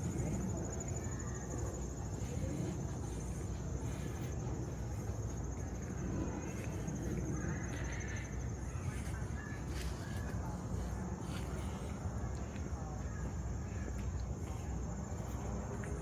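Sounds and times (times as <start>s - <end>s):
city background rumble: 0.0s - 16.0s
insects trilling: 0.0s - 16.0s.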